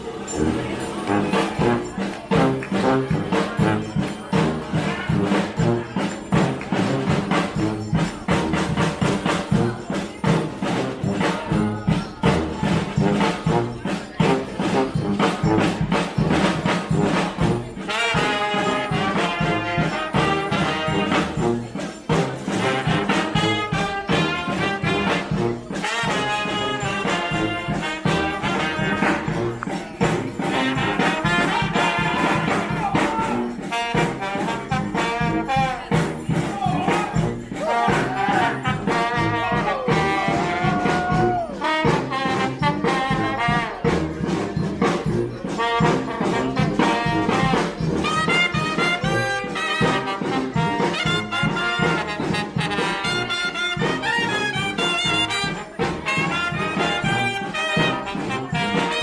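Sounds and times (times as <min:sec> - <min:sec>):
steady drum beat: 0:00.0 - 0:59.0
trumpets and trombones: 0:00.0 - 0:59.0.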